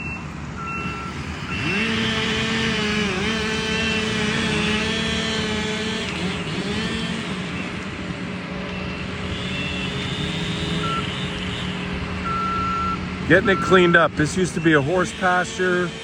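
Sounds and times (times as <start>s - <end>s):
heavy machine engine revving: 0.6s - 16.0s.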